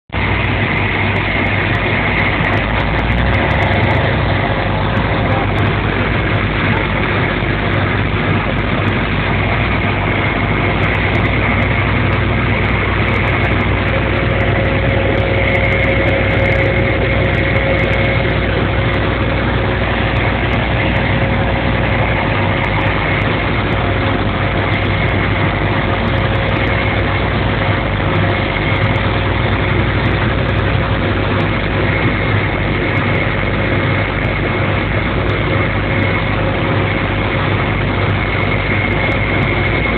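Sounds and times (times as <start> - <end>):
airplane engines droning: 0.1 - 39.9.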